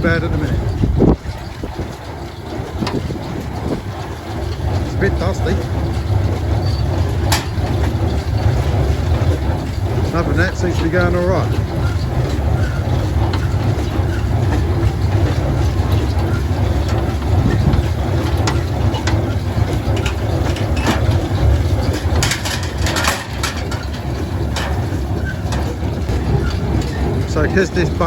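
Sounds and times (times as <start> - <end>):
baler clicks and knocks: 0.0 - 28.0
tractor engine running: 0.0 - 28.0.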